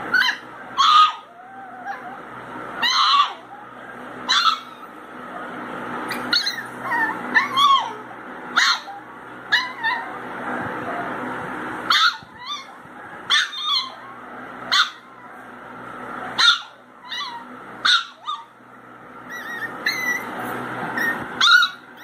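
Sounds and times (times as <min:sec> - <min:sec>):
puppies whining: 0:00.0 - 0:22.0
puppies yipping: 0:00.1 - 0:11.2, 0:11.9 - 0:15.5, 0:16.2 - 0:18.6, 0:19.2 - 0:22.0.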